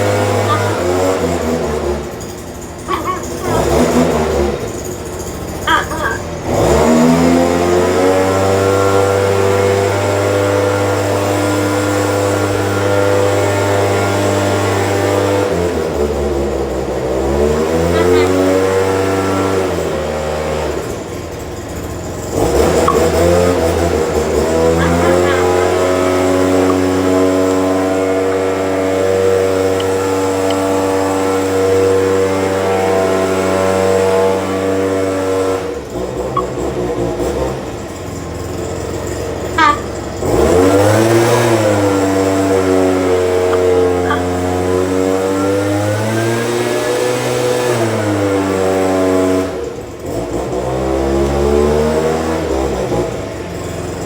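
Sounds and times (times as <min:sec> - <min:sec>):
leaf blower engine revving: 0:00.0 - 0:53.2.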